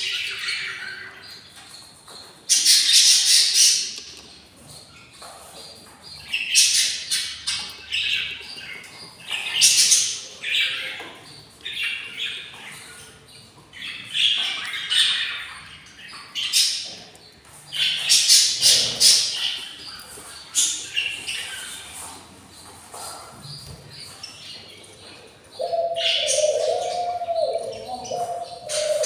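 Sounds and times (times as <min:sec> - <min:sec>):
bird chicks squawking: 0:00.0 - 0:29.0.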